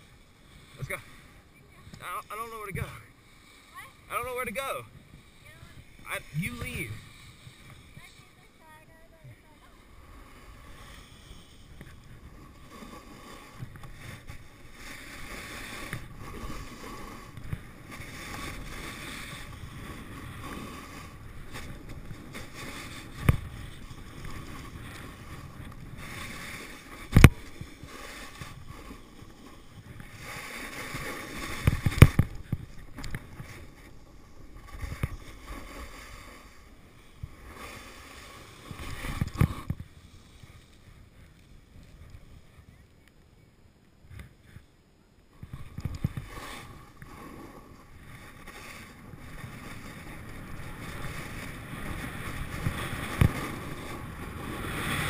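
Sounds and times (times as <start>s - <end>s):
snowboard scraping on snow: 0.0s - 42.7s, 45.4s - 55.0s.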